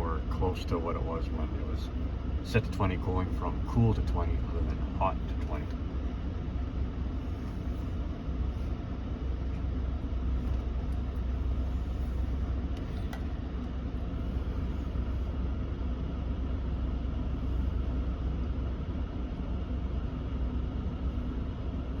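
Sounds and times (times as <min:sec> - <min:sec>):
air rushing from vents: 0:00.0 - 0:22.0
engine idling rumble: 0:00.0 - 0:22.0.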